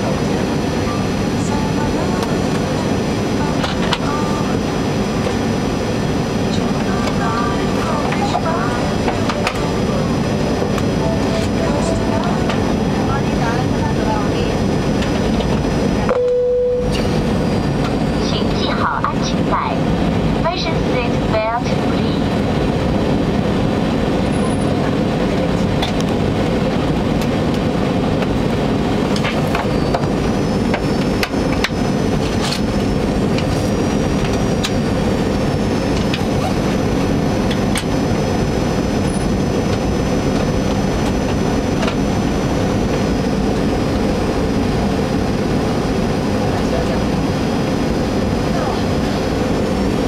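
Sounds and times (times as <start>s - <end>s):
jet engines: 0.0s - 50.0s.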